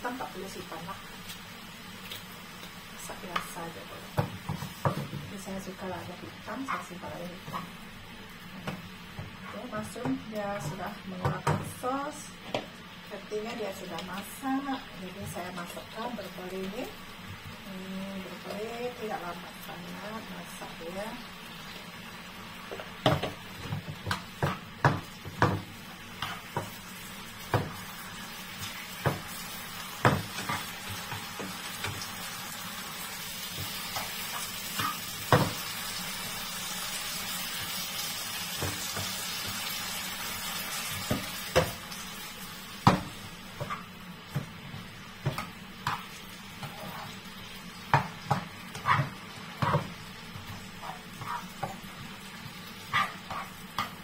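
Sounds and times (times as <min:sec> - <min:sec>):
broccoli sizzling in frying pan: 0:00.0 - 0:54.0.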